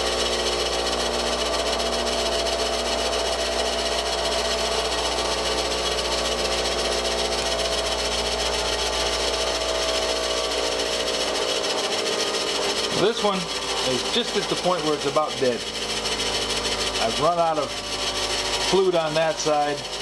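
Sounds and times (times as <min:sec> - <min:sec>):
bench grinder humming and whining: 0:00.0 - 0:20.0.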